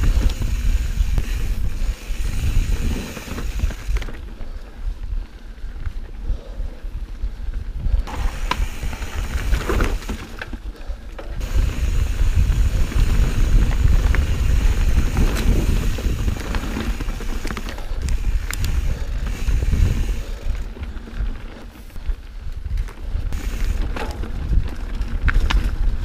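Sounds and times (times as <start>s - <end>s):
bike clicking and rattling: 0.0s - 26.0s
bike tyres rumbling on dirt: 0.0s - 26.0s
wind on camera: 0.0s - 26.0s.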